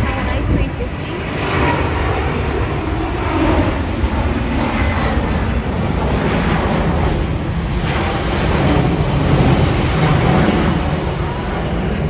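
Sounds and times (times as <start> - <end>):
jet airliner taking off: 0.0 - 12.0.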